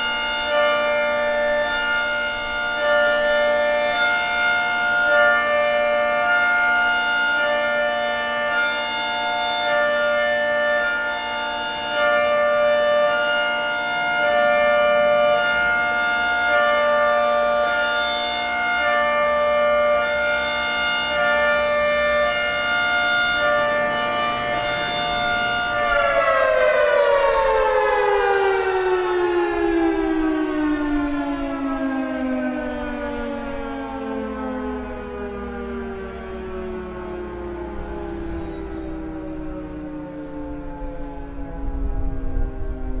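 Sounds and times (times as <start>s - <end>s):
siren winding down: 0.0s - 43.0s
warning siren alternating high low: 0.0s - 43.0s.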